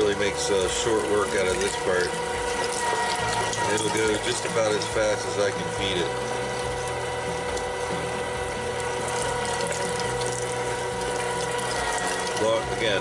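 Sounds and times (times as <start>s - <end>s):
electric meat grinder humming: 0.0s - 13.0s.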